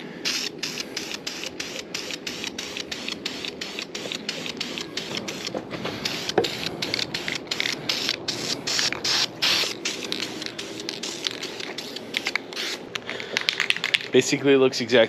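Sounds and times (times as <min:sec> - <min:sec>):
aerosol can spraying: 0:00.2 - 0:12.9.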